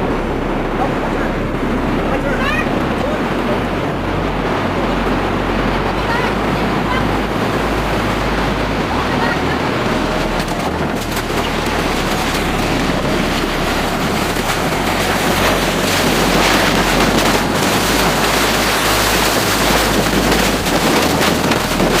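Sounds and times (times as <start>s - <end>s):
violent wind on microphone: 0.0s - 22.0s.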